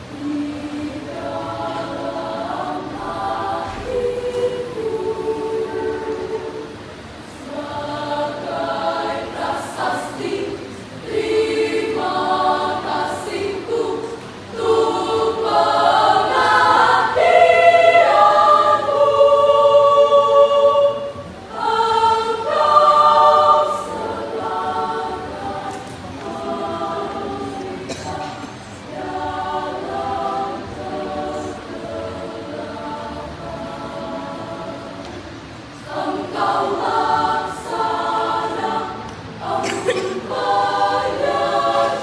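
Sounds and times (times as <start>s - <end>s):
choir of young voices singing: 0.0s - 42.0s.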